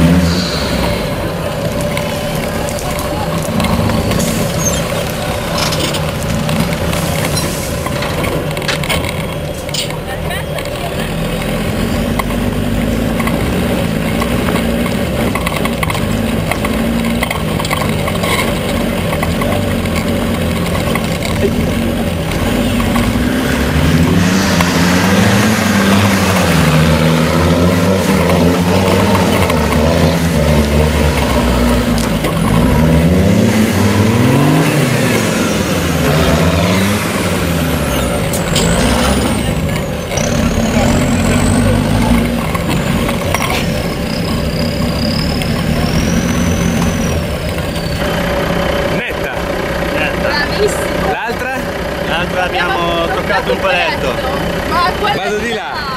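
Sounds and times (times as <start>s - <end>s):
buggy engine revving: 0.0s - 55.9s.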